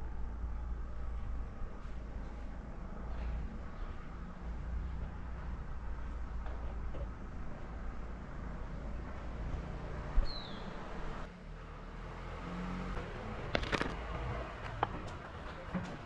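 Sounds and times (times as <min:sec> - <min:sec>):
low street rumble: 0:00.0 - 0:16.0.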